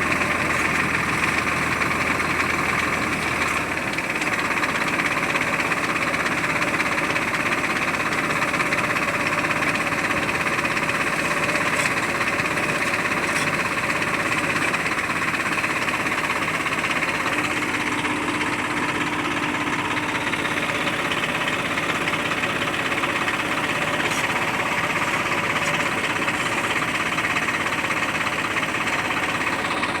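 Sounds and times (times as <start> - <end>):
diesel engine running steadily: 0.0 - 30.0.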